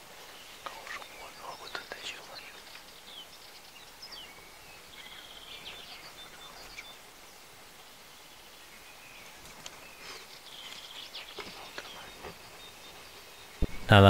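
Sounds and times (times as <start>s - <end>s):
faint outdoor background: 0.0s - 14.0s
small birds chirping: 0.0s - 14.0s.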